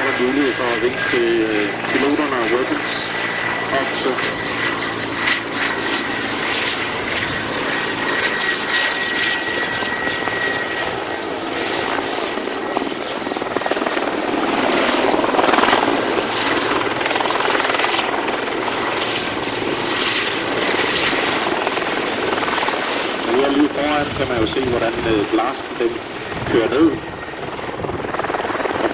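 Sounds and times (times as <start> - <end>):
helicopter rotor and engines: 0.0 - 28.9.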